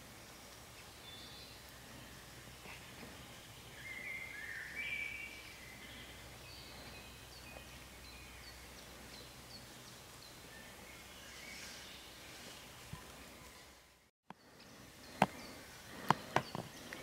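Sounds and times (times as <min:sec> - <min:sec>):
birdsong whistles and chirps: 0:00.2 - 0:13.8, 0:14.4 - 0:17.0.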